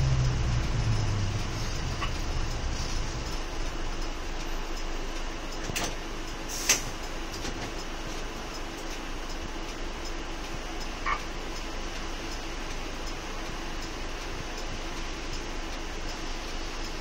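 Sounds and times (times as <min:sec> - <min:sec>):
bus engine drone: 0:00.0 - 0:17.0
idling cabin hum: 0:00.0 - 0:17.0.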